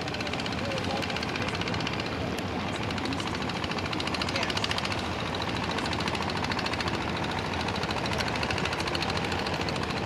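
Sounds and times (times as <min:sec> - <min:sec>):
boat engine knocking: 0:00.0 - 0:10.0.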